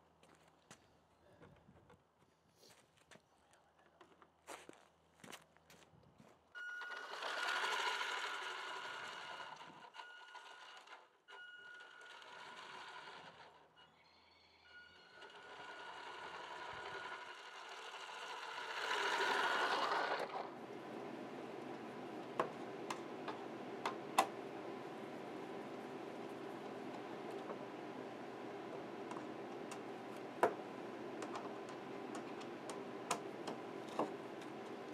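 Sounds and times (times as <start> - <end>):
electric motor and gearbox whining: 6.6 - 34.9.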